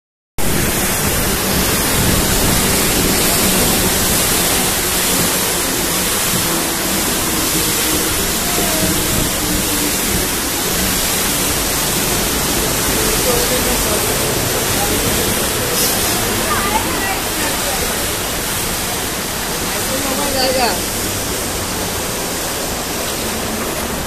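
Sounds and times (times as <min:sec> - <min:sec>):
electric train moving: 0:00.4 - 0:24.0
water churning and rushing: 0:00.4 - 0:24.0.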